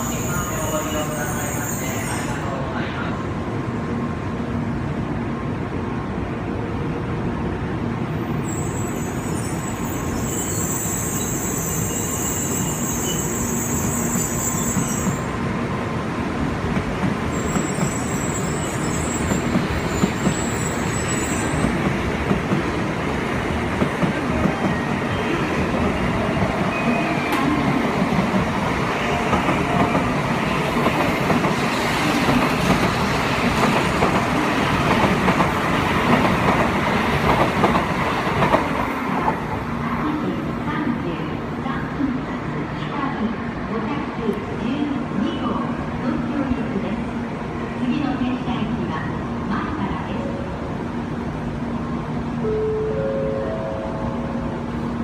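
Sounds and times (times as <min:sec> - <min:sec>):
train wheels rumbling on rail: 0:03.4 - 0:52.4.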